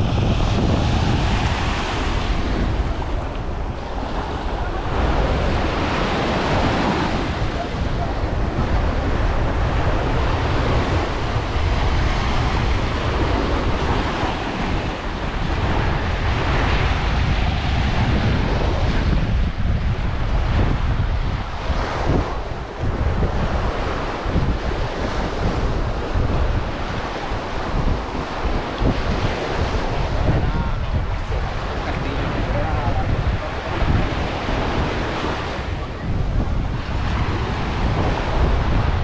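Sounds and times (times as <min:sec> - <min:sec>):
waves breaking on beach: 0:00.0 - 0:39.0
wind buffeting microphone: 0:00.0 - 0:39.0.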